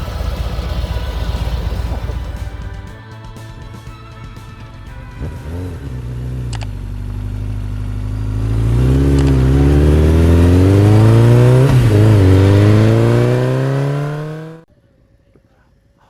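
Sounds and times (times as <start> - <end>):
motorcycle engine accelerating: 0.0 - 15.3.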